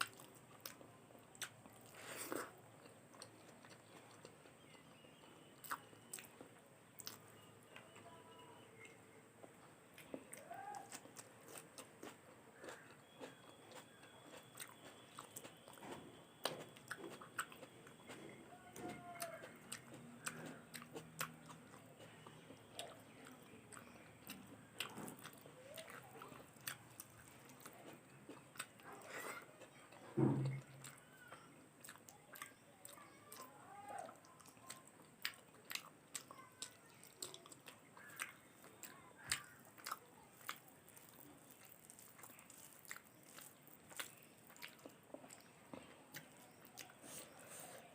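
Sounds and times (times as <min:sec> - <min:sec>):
person chewing food: 0:00.0 - 0:08.1, 0:08.8 - 0:47.9.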